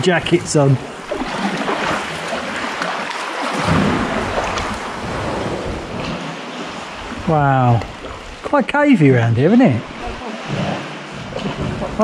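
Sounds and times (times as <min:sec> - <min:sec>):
kayak paddles splashing water: 0:00.0 - 0:12.0.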